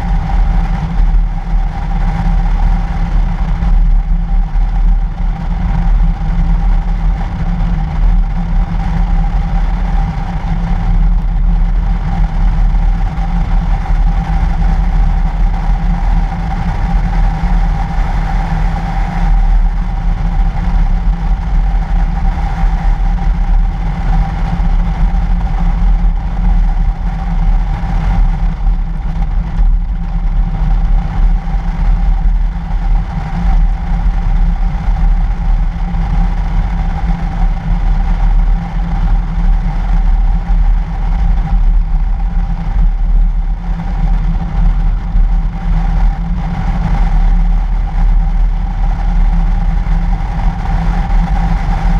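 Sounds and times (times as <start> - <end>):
steady hum: 0.0 - 51.9
vehicle driving on snowy road: 0.0 - 51.9.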